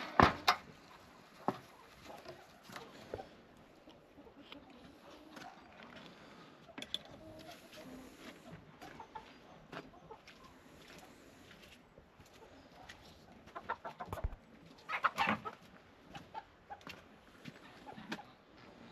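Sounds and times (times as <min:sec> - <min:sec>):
chickens squawking: 0:00.0 - 0:11.4, 0:12.4 - 0:18.5
chickens clucking: 0:00.0 - 0:18.9.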